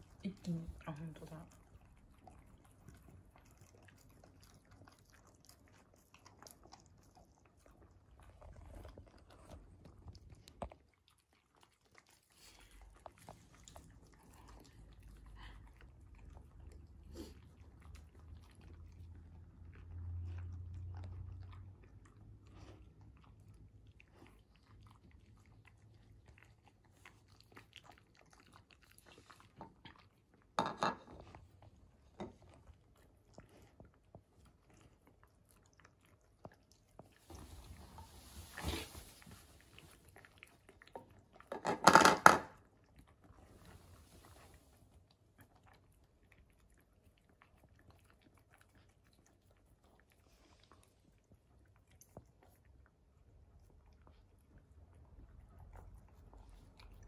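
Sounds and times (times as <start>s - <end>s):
dogs chewing: 0.0s - 42.0s, 42.6s - 57.0s.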